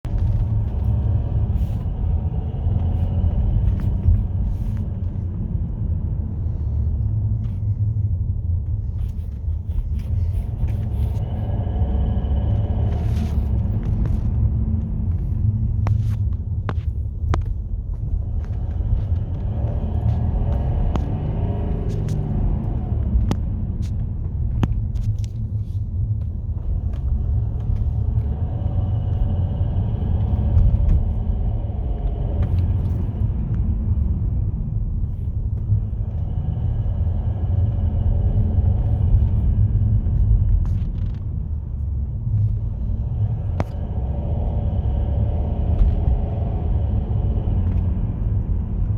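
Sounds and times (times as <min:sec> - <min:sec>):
car low rumble: 0:00.0 - 0:48.9.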